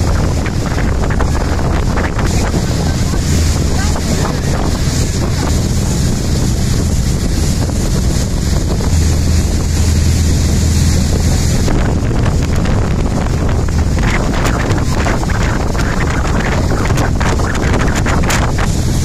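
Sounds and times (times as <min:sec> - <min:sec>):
ferry engine drone: 0:00.0 - 0:19.0
water rushing past hull: 0:00.0 - 0:19.0
wind buffeting microphone: 0:00.0 - 0:19.0.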